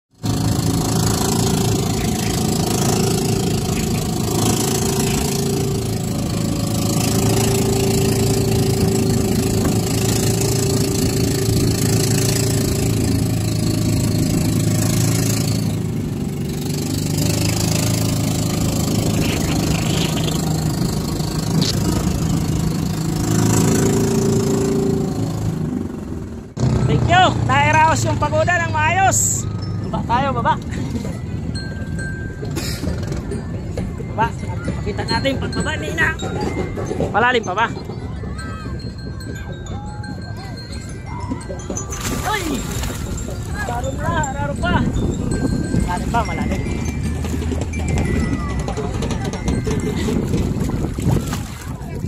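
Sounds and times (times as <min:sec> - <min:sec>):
boat engine drone: 0:00.1 - 0:52.0.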